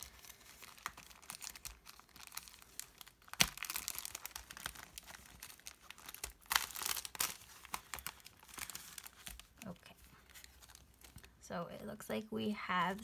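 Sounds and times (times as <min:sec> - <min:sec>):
plastic wrapping crinkling: 0:00.0 - 0:11.5.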